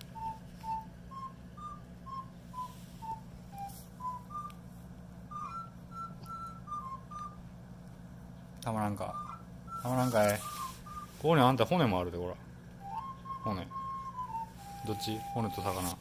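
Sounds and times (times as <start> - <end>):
whistle-like tune: 0.0 - 7.5, 9.0 - 12.0, 12.8 - 16.0
low steady hum: 0.0 - 16.0.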